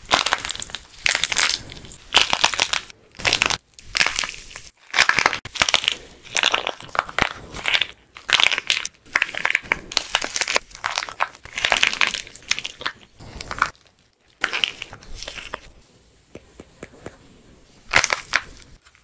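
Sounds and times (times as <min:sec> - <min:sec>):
plaster crunching by hand: 0:00.0 - 0:15.7, 0:17.9 - 0:19.0.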